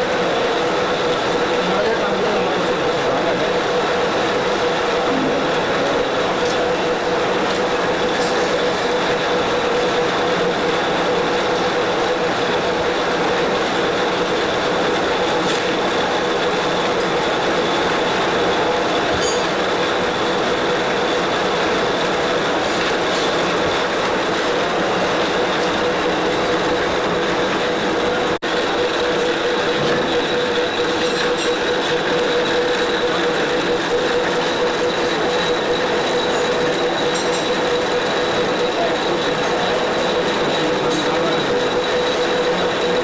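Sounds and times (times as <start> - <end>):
lathe running with whine: 0.0 - 43.0.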